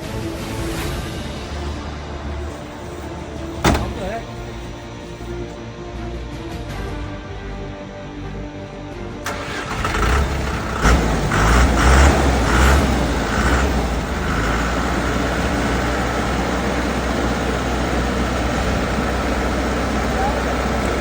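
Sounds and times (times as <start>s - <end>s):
engine starting and running: 0.7s - 5.7s, 9.2s - 21.0s.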